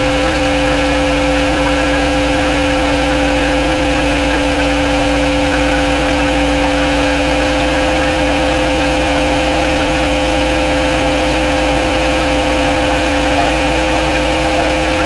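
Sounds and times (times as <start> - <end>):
pressure washer motor humming: 0.0 - 15.0.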